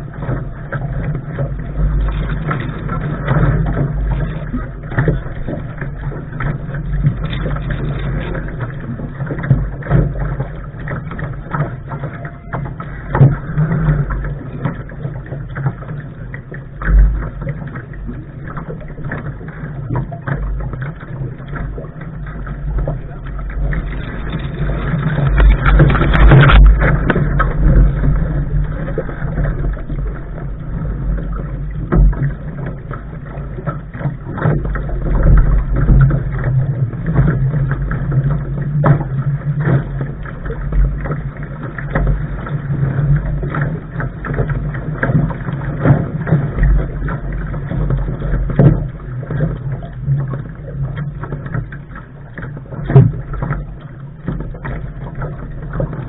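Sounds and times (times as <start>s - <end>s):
water rushing past hull: 0.0s - 56.0s
wind rumbling on microphone: 0.0s - 56.0s.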